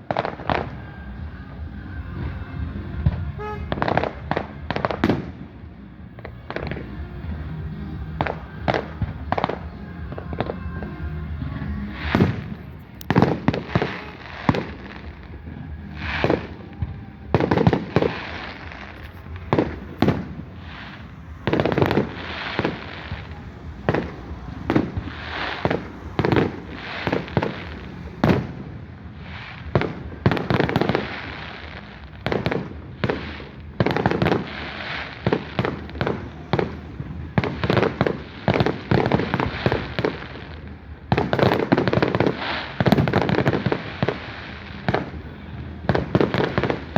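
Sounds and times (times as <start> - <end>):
fireworks bangs: 0.0 - 46.9
fireworks crackle: 0.0 - 46.9.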